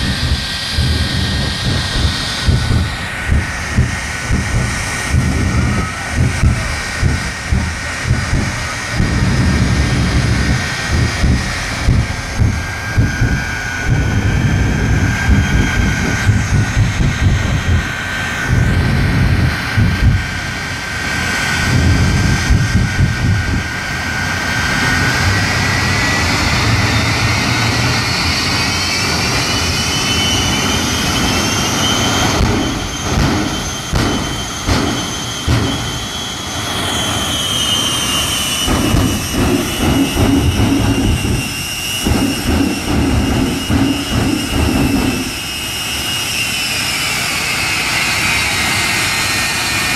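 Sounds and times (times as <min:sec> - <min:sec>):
jet engines whining and rumbling: 0:00.0 - 0:49.9.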